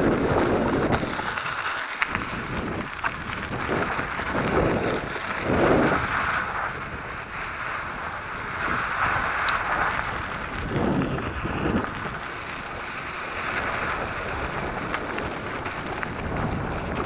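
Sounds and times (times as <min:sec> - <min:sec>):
bike tyres crunching on gravel: 0:00.0 - 0:17.0
wind buffeting microphone: 0:00.0 - 0:17.0.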